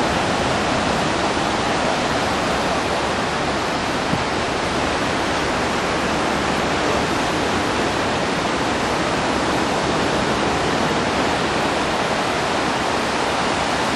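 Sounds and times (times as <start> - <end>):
ocean surf breaking: 0.0 - 13.9.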